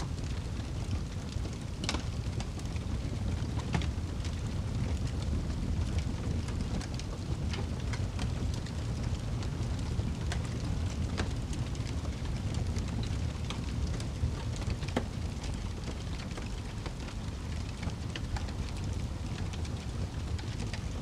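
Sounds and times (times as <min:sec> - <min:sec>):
fireplace flames rumbling: 0:00.0 - 0:21.0
logs crackling and popping: 0:00.0 - 0:21.0.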